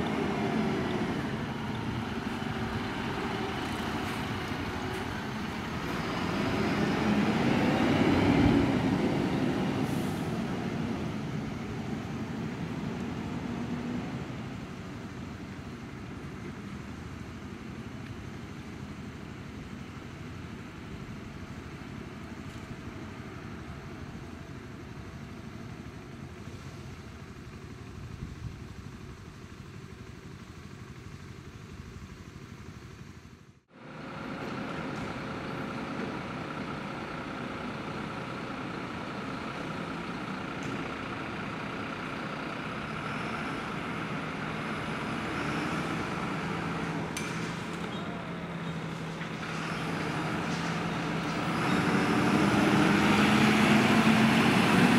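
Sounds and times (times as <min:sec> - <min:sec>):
fire truck diesel engine running: 0:00.0 - 0:54.9
street traffic noise: 0:00.0 - 0:54.9.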